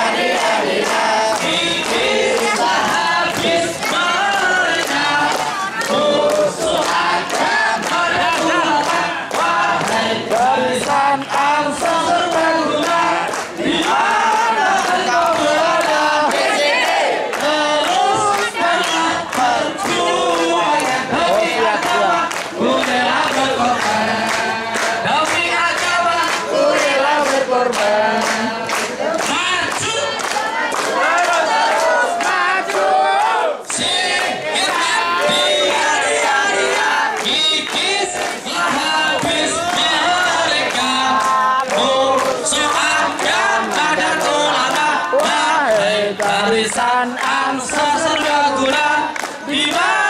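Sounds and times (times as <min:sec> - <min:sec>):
group of voices singing: 0:00.0 - 0:50.0.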